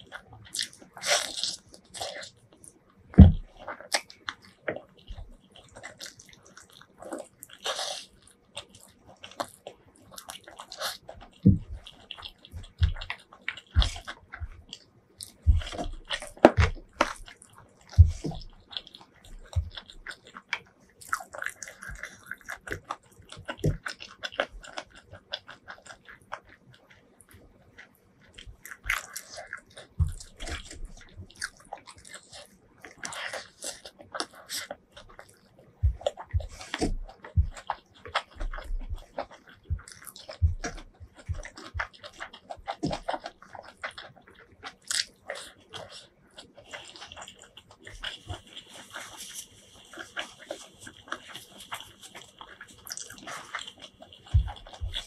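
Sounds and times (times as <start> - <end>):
chewing and mouth smacks: 0.0 - 55.0.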